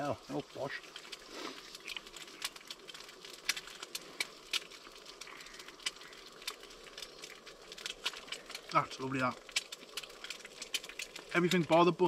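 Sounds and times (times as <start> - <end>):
burgers sizzling in frying pan: 0.0 - 12.0
fat spitting crackles: 0.3 - 11.7.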